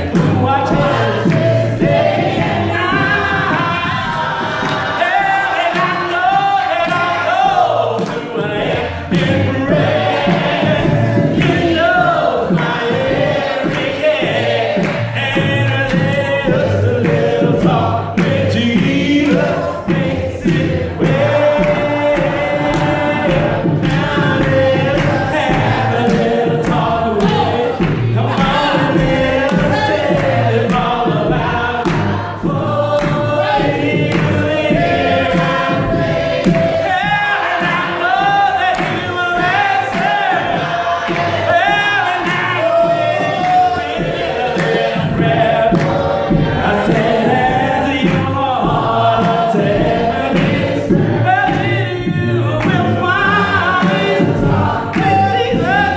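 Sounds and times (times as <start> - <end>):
group singing gospel: 0.0 - 55.9
steady beat: 0.0 - 55.9.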